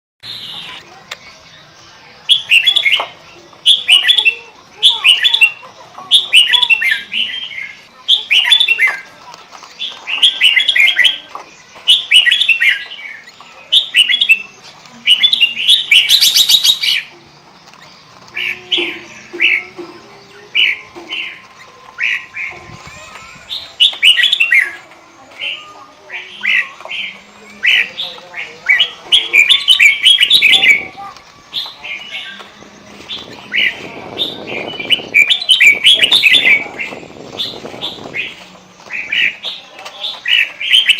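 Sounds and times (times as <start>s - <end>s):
bird chirping phrases: 0.2s - 40.9s.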